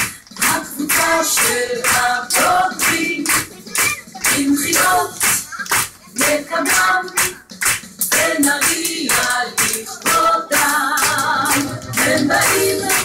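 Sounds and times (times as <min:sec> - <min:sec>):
rhythmic hand-clapping: 0:00.0 - 0:13.0
person singing: 0:00.4 - 0:07.5, 0:08.1 - 0:13.0.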